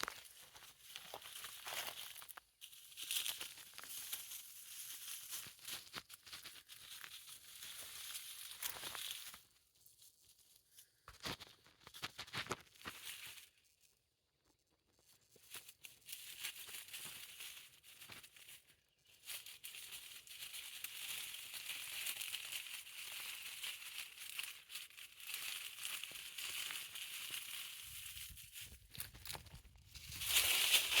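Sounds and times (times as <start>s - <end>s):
rustling and crackling in bushes: 0.0s - 31.0s.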